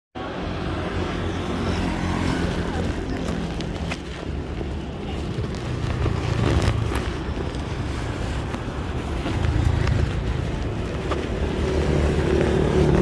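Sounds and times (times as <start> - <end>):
wind: 0.1 - 13.0
traffic rumble: 0.2 - 13.0.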